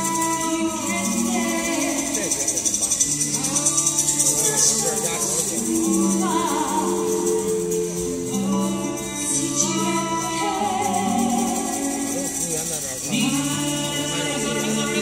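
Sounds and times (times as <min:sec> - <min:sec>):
band playing: 0:00.0 - 0:15.0
rattling percussion: 0:00.0 - 0:15.0.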